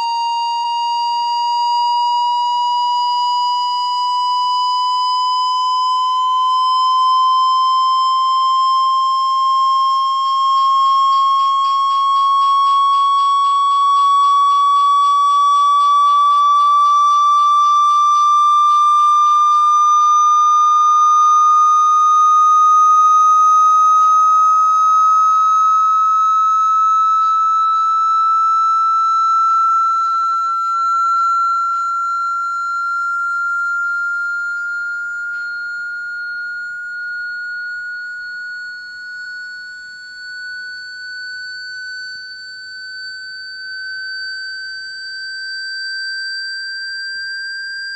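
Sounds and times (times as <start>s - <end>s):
electronic sine tone rising: 0.0s - 47.9s.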